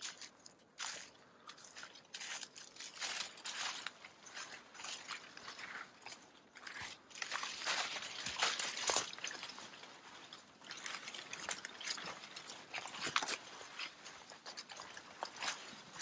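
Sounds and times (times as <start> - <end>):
footsteps crunching on a trail: 0.0 - 16.0
rustling brush: 0.0 - 16.0.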